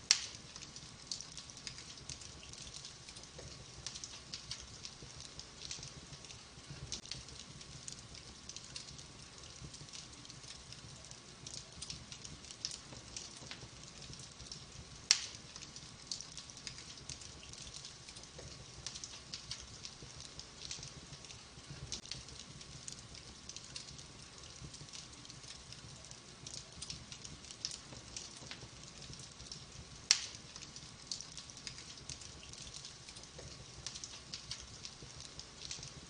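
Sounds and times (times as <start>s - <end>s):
low rumble of flames: 0.0s - 36.0s
wood fire crackling: 0.0s - 36.0s.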